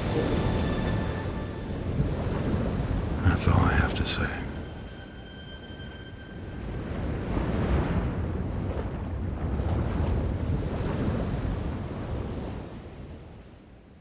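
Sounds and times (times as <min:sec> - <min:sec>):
ocean surf: 0:00.0 - 0:13.7
wind: 0:00.0 - 0:14.0.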